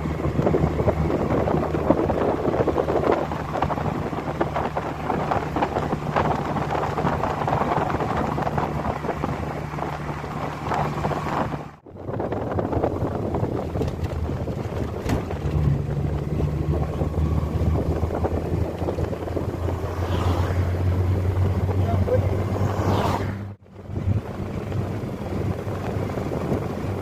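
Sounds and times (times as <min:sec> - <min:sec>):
low engine hum: 0:00.0 - 0:27.0
wind on microphone: 0:00.0 - 0:27.0.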